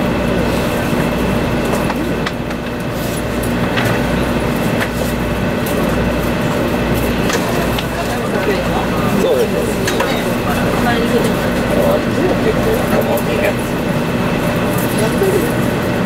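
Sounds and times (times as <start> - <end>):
constant low hum: 0.0 - 16.0
train running rumble and rush: 0.0 - 16.0.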